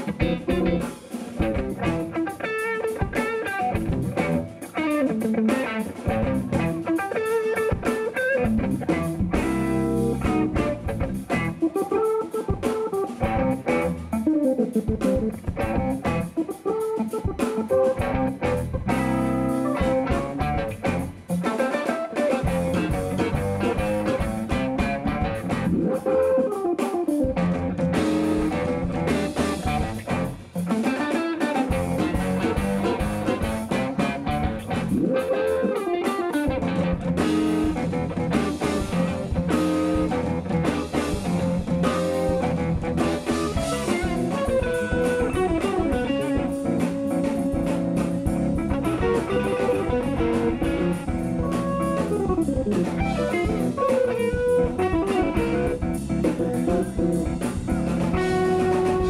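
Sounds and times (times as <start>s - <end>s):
bass guitar: 0.0s - 59.0s
drum kit: 0.0s - 59.0s
electric guitar with bent notes: 0.0s - 59.0s
electric keyboards: 0.0s - 59.0s.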